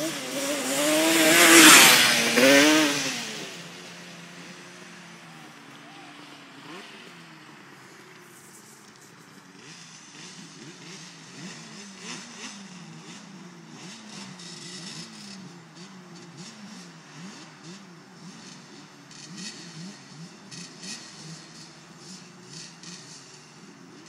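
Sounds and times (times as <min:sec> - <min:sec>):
distant quad engines revving: 0:00.0 - 0:24.0.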